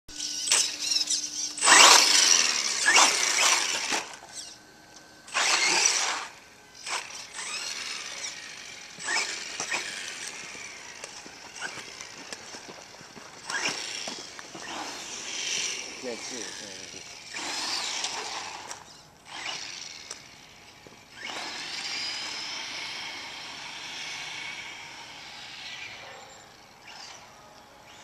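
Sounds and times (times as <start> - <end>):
toy truck motor and tyres: 0.1 - 28.0.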